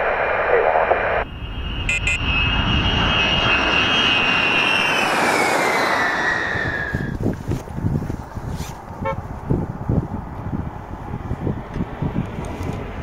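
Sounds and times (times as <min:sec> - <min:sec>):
jet bomber roaring overhead: 0:00.0 - 0:13.0
jet engine whine dropping in pitch: 0:00.0 - 0:13.0.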